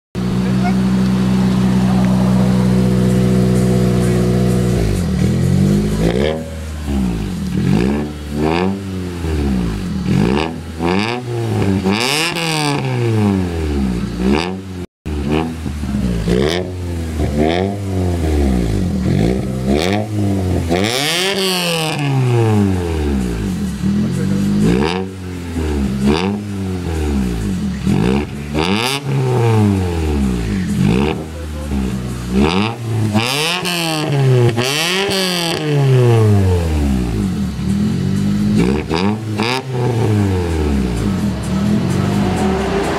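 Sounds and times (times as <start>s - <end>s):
car engine idling and revving: 0.1s - 42.9s.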